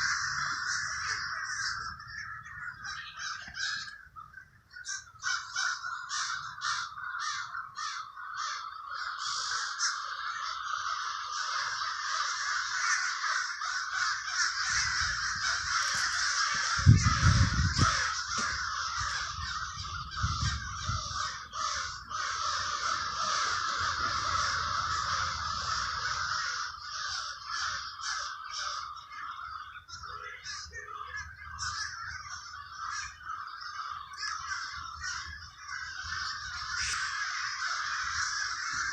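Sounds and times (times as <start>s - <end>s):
crows cawing: 0.0s - 38.9s.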